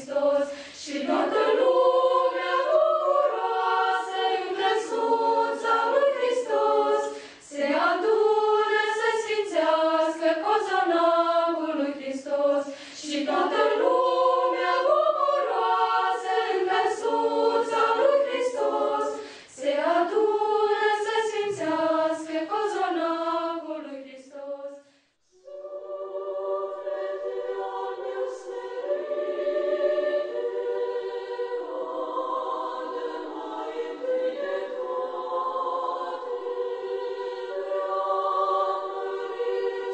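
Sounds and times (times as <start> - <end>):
girls' choir singing a cappella: 0.0 - 39.9
sustained choral chords: 0.0 - 39.9.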